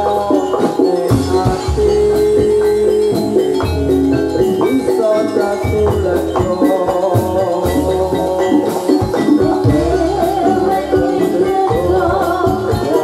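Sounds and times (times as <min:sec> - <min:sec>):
drum beats: 0:00.0 - 0:13.0
metallophones ringing melody: 0:00.0 - 0:13.0.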